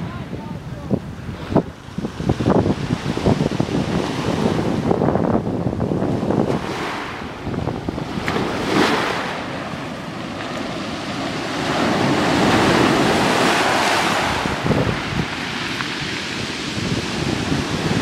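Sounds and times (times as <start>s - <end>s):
wind buffeting microphone: 0.0s - 18.0s
waves washing over pebbles: 1.4s - 18.0s.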